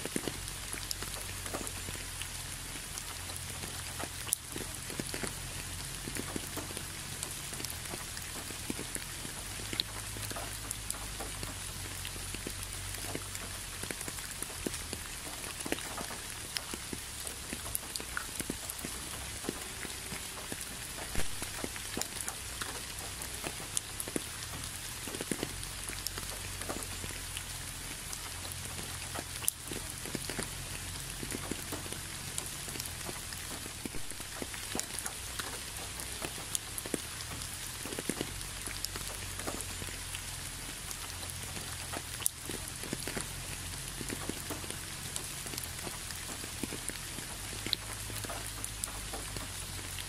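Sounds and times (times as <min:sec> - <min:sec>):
drops striking leaves: 0:00.0 - 0:50.0
steady rain hiss: 0:00.0 - 0:50.0.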